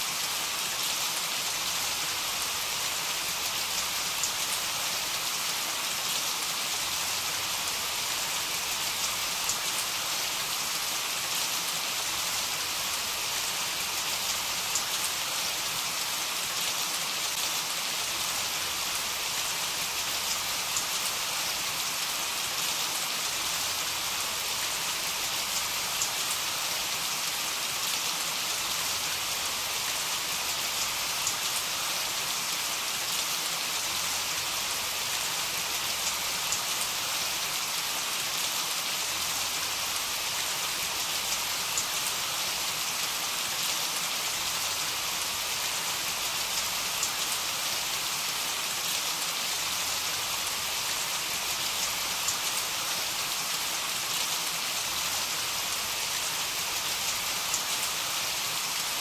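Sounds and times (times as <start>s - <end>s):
heavy rain falling: 0.1s - 59.0s.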